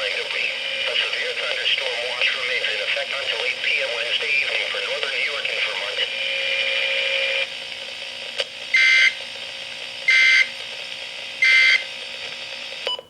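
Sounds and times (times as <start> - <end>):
radio hiss: 0.0 - 12.8
radio click: 0.0 - 13.0.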